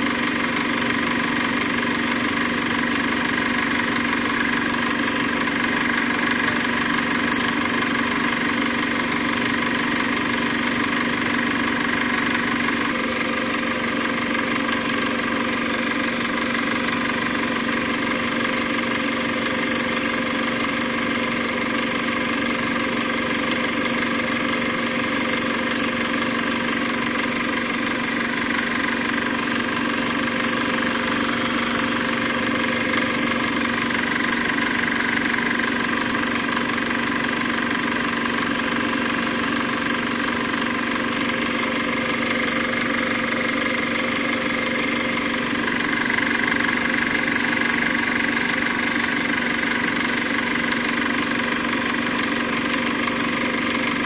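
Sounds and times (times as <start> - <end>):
machine humming steadily: 0.0 - 54.0.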